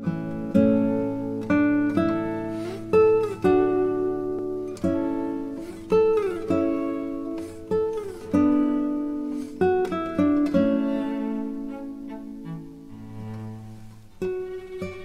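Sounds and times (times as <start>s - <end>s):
plucked acoustic guitar: 0.0s - 15.0s.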